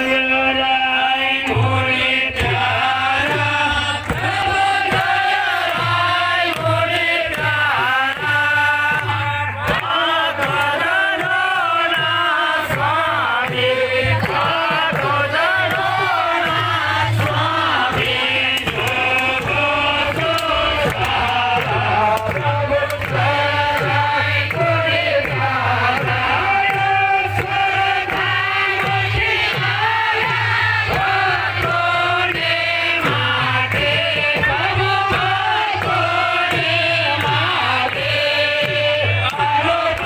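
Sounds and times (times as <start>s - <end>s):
voices chanting a melody: 0.0s - 40.0s.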